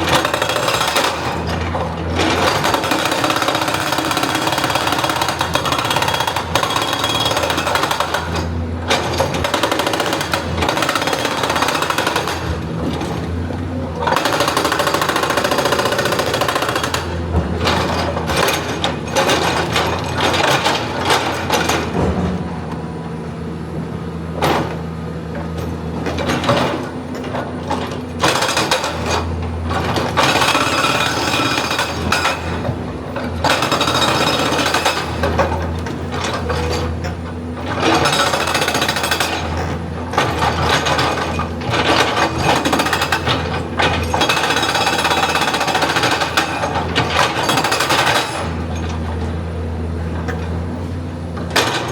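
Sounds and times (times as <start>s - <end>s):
excavator hammering rock: 0.0s - 22.5s, 26.2s - 49.1s.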